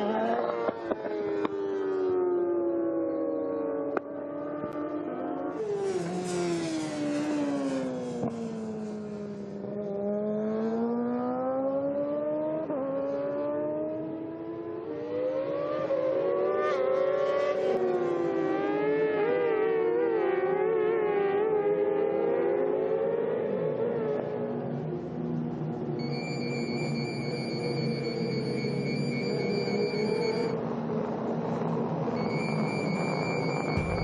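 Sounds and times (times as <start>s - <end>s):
racing motorcycle engines: 0.0s - 34.0s.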